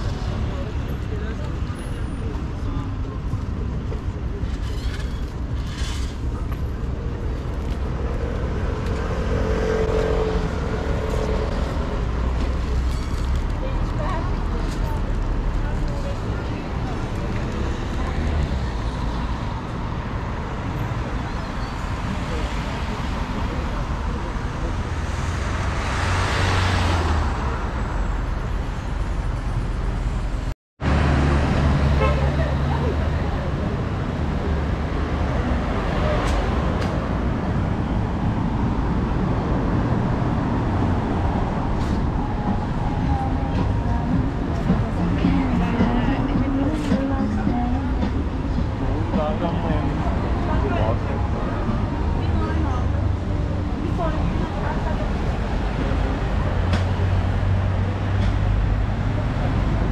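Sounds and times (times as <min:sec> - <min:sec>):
cars driving by: 0:00.0 - 0:59.9
vehicle engine hum: 0:00.0 - 0:59.9.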